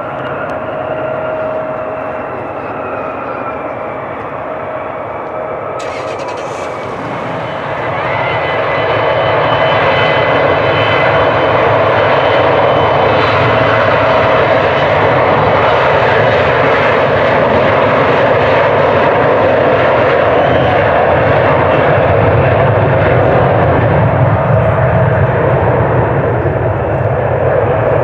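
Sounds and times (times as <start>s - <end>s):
high jet whine: 0.0s - 28.0s
jet engine roar: 0.0s - 28.0s.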